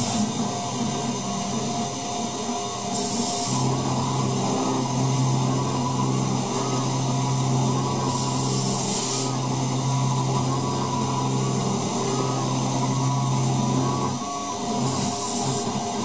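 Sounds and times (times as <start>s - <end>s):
cutter cutting aluminium: 0.0s - 16.0s
milling machine spindle hum: 0.0s - 16.0s.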